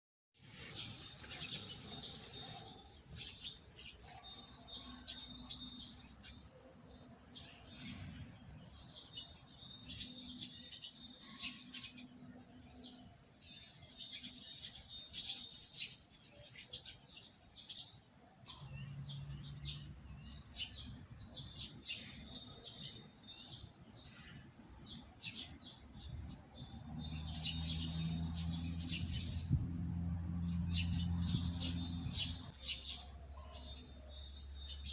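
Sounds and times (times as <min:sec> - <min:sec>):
songbirds chirping: 0:00.4 - 0:34.9.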